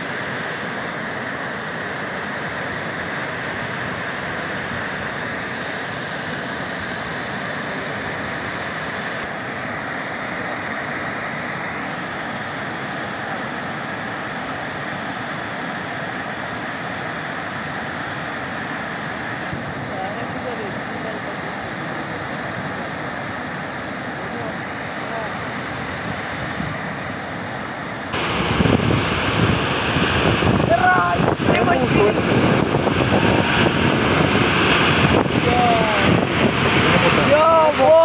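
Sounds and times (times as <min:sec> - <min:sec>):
river in flood rushing: 0:00.0 - 0:38.0.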